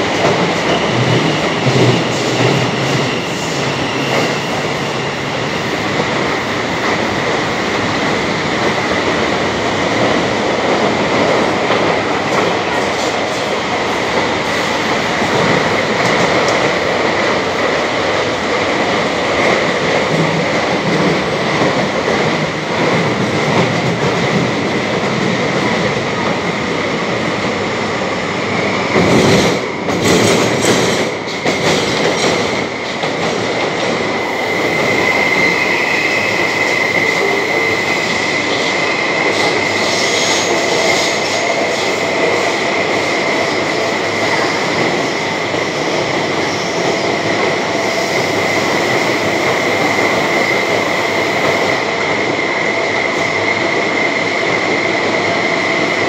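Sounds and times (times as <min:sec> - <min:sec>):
metro train rumbling through tunnel: 0:00.0 - 0:56.0.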